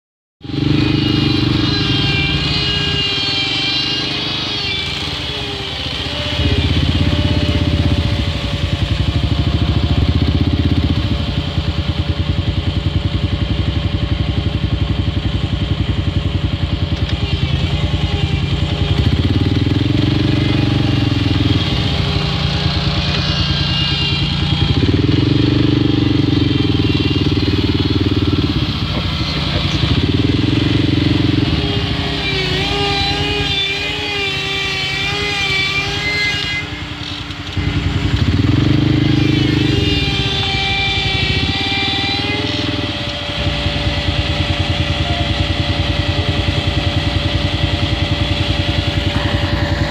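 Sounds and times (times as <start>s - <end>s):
engine running under load: 0.4s - 49.9s.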